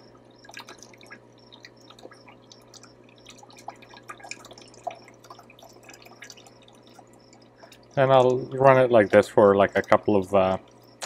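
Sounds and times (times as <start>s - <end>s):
bubbles popping and splashing: 0.0s - 10.9s
protein skimmer humming: 0.0s - 11.0s
water dripping: 0.0s - 11.0s.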